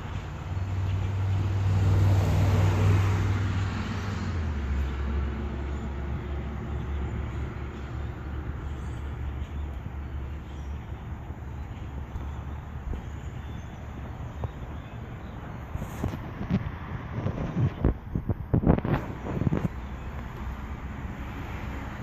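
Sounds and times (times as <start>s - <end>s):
road noise: 0.0s - 22.0s
vehicle engine drone: 0.0s - 22.0s.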